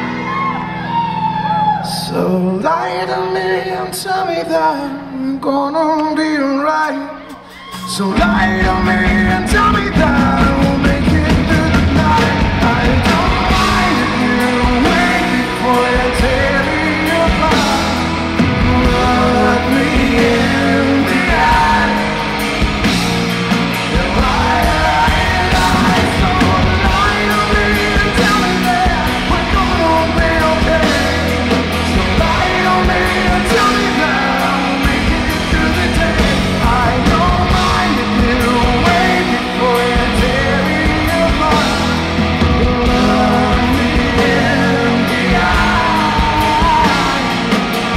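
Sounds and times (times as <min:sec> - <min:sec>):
electric guitar: 0:00.0 - 0:05.4, 0:06.0 - 0:47.9
man singing: 0:01.7 - 0:47.9
drum kit: 0:07.2 - 0:47.9.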